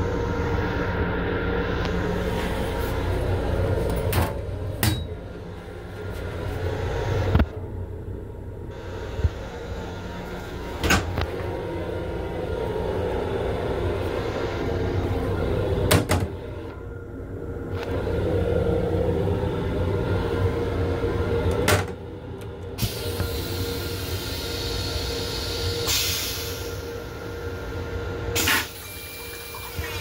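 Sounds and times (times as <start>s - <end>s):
railcar rumble and hum: 0.0s - 30.0s.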